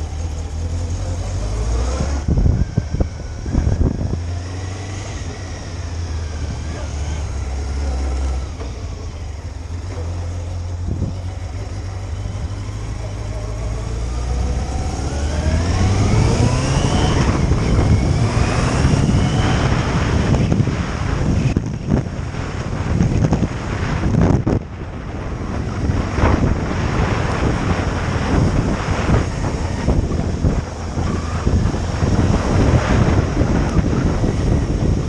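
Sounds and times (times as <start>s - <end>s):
motorcycle engine accelerating: 0.0s - 35.0s
wind noise: 0.0s - 35.0s.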